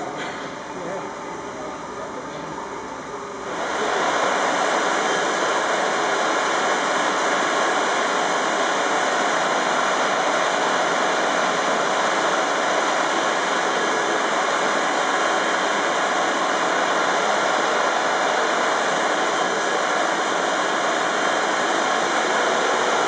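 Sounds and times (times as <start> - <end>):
vacuum pump roaring: 0.0 - 23.0.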